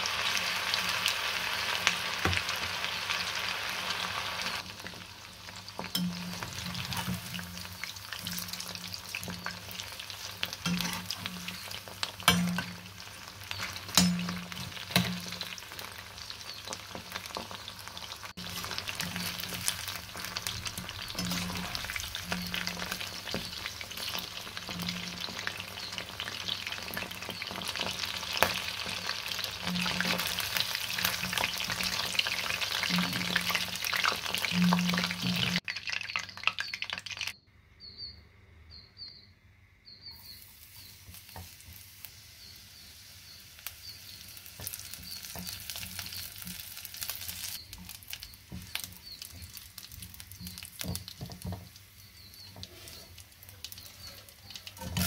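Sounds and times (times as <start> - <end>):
chicken deep-frying in hot oil: 0.0 - 37.4, 39.9 - 55.0
garlic sizzling in a pan: 0.0 - 37.4, 40.2 - 55.0.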